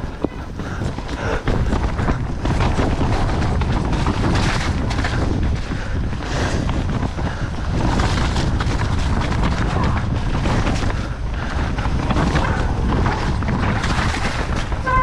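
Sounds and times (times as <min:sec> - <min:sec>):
bike clattering over rough ground: 0:00.0 - 0:15.0
wind rushing over microphone: 0:00.0 - 0:15.0.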